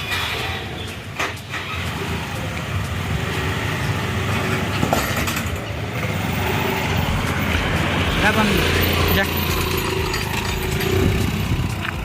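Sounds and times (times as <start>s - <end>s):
scooter engine running: 0.4s - 12.0s.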